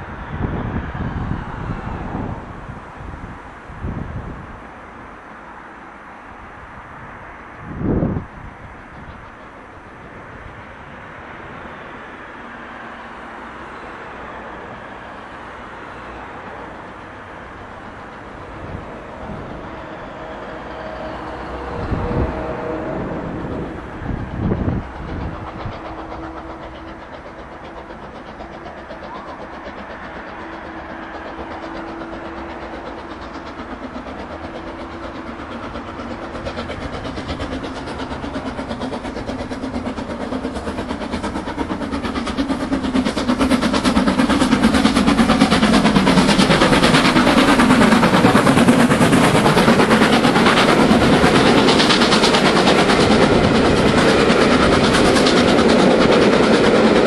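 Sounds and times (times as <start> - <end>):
steam train passing: 0.0 - 57.0.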